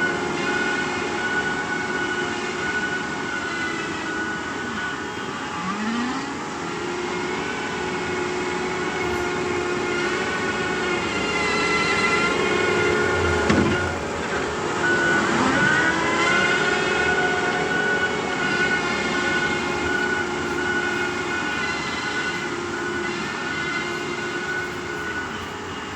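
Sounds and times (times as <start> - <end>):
excavator engine with hydraulic whine: 0.0 - 25.9.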